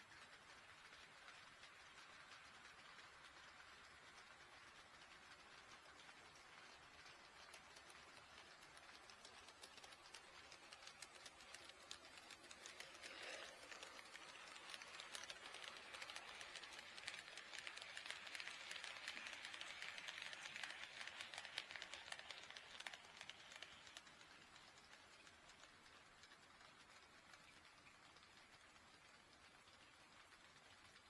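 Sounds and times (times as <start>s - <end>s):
model train wheels clicking: 0.0s - 31.0s
model train whirring: 0.0s - 31.0s.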